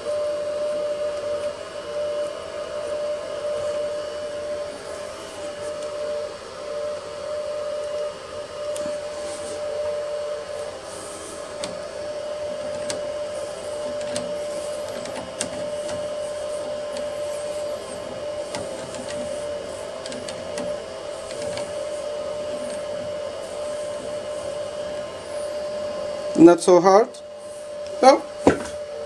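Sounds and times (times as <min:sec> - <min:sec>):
cooling fan whirring: 0:00.0 - 0:29.0.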